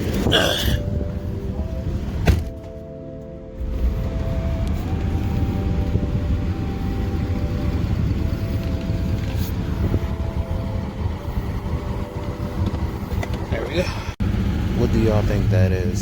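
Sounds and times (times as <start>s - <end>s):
car engine rumbling: 0.0s - 16.0s
road noise: 0.0s - 16.0s.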